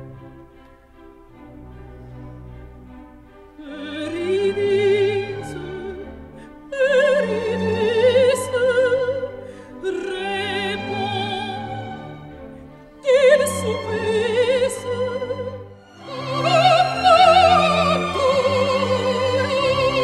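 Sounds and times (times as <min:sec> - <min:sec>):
orchestra playing: 0:00.0 - 0:20.0
operatic soprano singing: 0:03.6 - 0:20.0.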